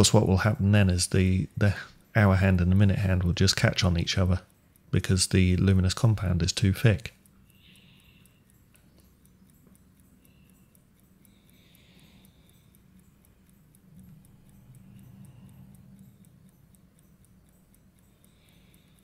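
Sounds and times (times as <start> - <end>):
clock ticking: 0.0 - 19.0.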